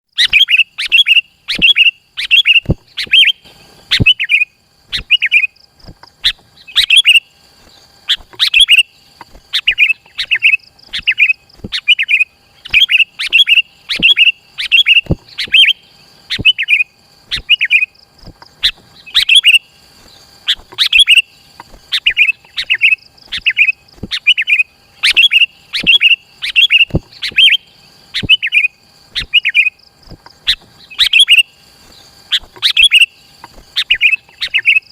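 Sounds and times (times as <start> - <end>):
bird calling in bright phrases: 0.1 - 34.9.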